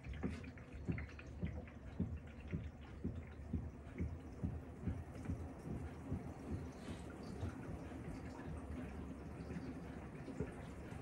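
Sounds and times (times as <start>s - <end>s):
laundry sloshing in washing machine: 0.0s - 11.0s.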